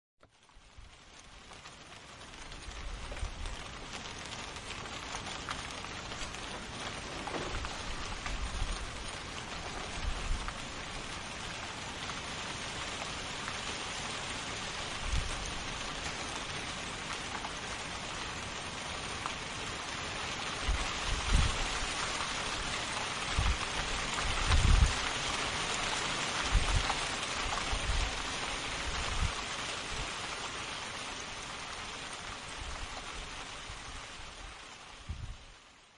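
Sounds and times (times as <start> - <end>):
rain pouring: 0.2 - 35.9.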